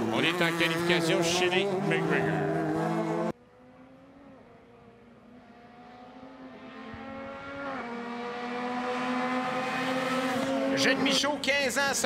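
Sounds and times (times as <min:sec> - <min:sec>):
racing utility vehicle engine: 0:00.0 - 0:12.0.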